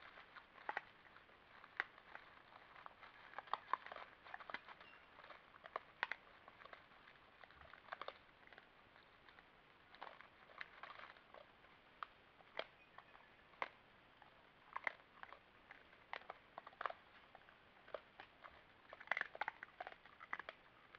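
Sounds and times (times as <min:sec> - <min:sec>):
animals chewing corn kernels: 0:00.0 - 0:20.9.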